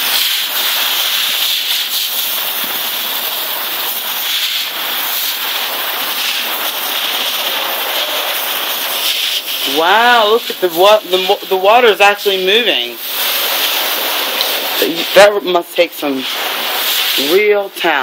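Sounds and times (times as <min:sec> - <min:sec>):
garden hose spraying water: 0:00.0 - 0:18.0.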